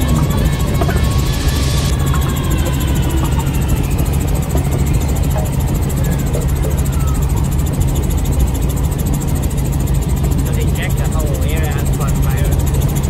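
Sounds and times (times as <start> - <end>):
helicopter engine and rotor droning: 0.0 - 13.0.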